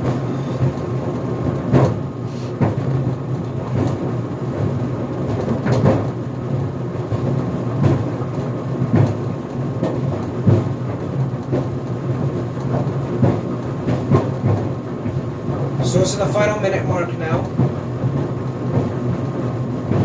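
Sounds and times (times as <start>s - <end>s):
dryer drum rumbling: 0.0s - 20.0s.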